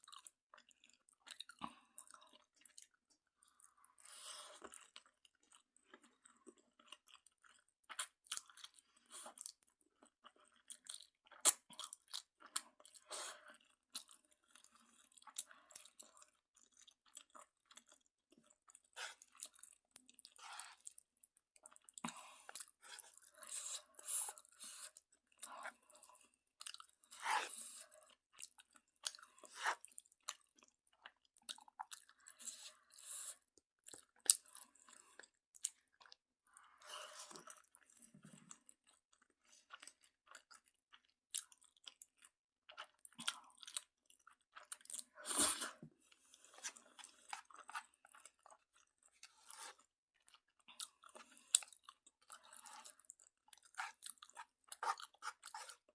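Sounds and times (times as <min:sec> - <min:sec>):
person chewing noodles: 0:00.0 - 0:55.9.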